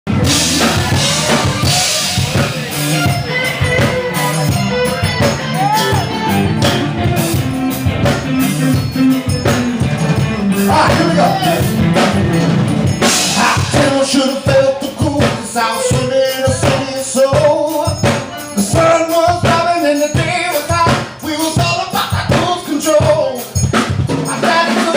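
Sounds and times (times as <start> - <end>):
bass guitar: 0.1 - 24.9
drum kit beat: 0.1 - 24.9
electric guitar: 0.1 - 24.9.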